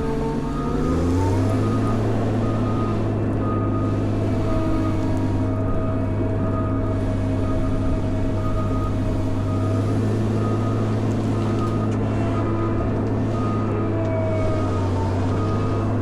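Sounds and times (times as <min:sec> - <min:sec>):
diesel engine running: 0:00.0 - 0:16.0
reversing alarm beeping: 0:00.0 - 0:16.0.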